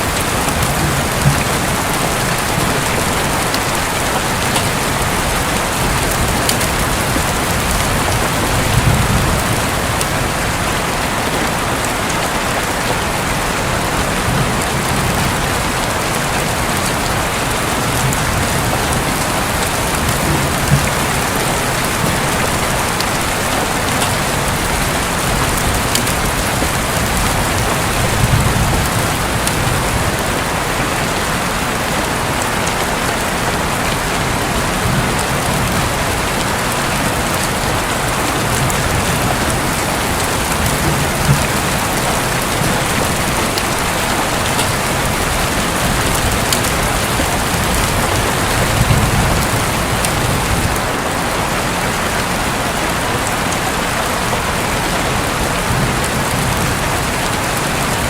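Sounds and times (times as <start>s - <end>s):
heavy rain on a roof: 0.0s - 58.0s
sharp raindrops: 0.0s - 58.0s.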